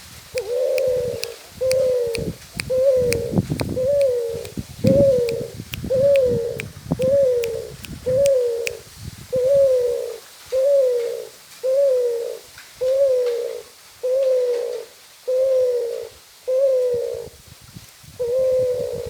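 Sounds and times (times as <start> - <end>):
dove cooing: 0.4 - 8.7, 9.4 - 17.4, 18.2 - 19.0.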